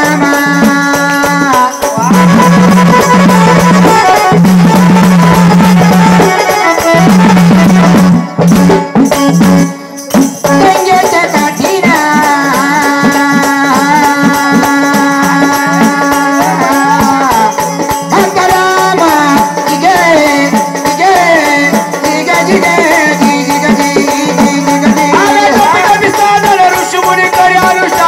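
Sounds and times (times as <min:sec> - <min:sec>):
rhythmic percussion: 0:00.0 - 0:28.0.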